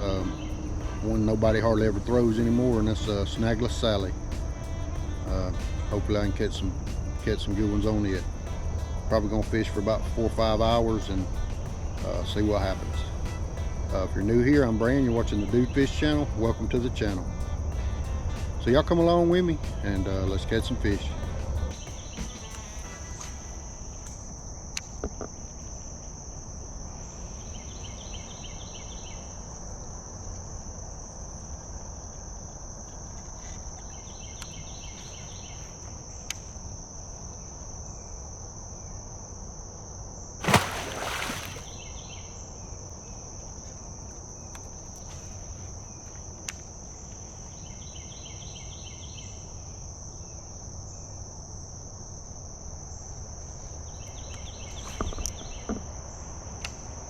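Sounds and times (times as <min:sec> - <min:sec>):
insects trilling: 0:00.0 - 0:57.0
soft pulsing insect call: 0:00.0 - 0:57.0.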